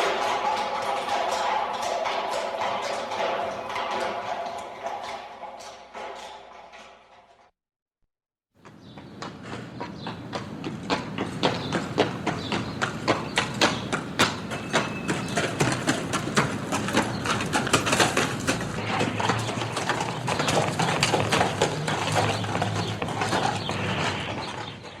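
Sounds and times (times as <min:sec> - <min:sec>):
horse hooves clip-clopping: 0:00.0 - 0:07.4, 0:08.6 - 0:25.0.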